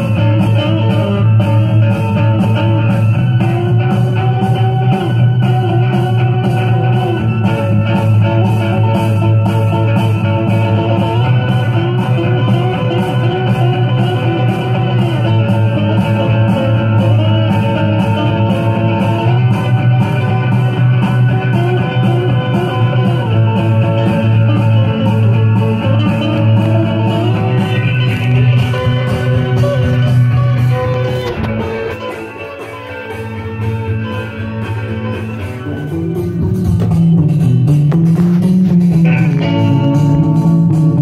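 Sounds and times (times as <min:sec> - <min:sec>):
guitar rock music from vinyl: 0:00.0 - 0:41.0.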